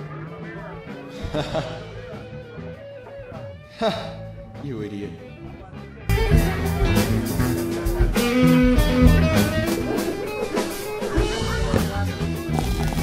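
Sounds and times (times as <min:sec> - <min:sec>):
rock music with electric guitar: 0:00.0 - 0:04.6, 0:05.2 - 0:13.0.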